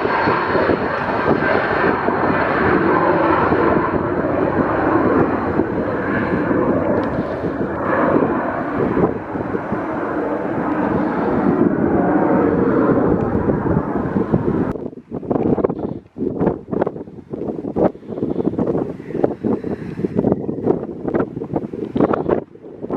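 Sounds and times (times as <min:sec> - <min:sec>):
airliner engines passing: 0:00.0 - 0:22.9.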